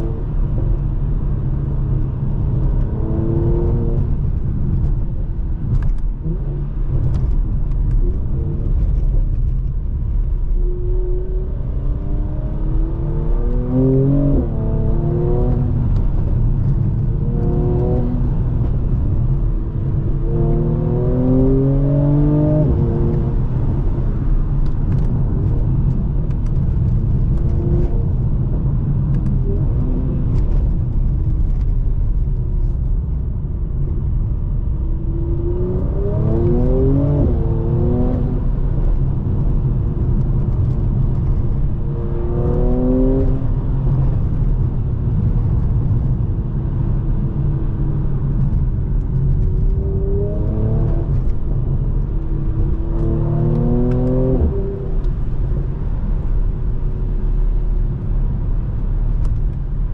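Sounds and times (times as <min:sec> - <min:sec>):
car engine accelerating: 0:00.0 - 0:59.9
road rumble: 0:00.0 - 0:59.9.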